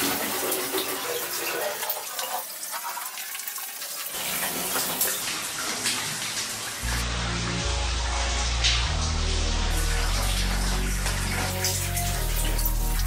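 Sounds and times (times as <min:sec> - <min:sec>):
shower water splashing: 0:00.0 - 0:13.0.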